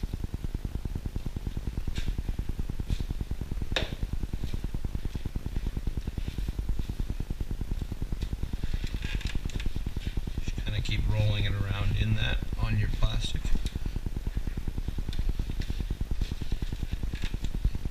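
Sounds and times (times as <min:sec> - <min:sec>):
low pulsing mechanical drone: 0:00.0 - 0:17.9.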